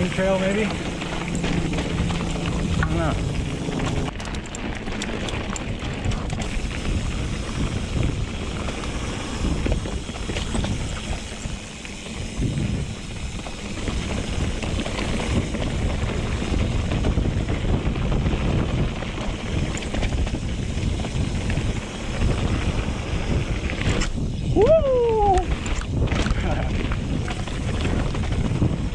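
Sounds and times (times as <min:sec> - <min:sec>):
bike rattling over rock: 0:00.0 - 0:28.9
wind buffeting microphone: 0:00.0 - 0:28.9.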